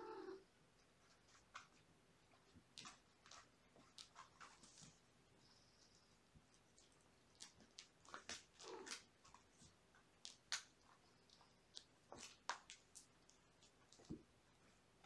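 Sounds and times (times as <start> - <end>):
kittens scratching and rustling: 0.8 - 14.8.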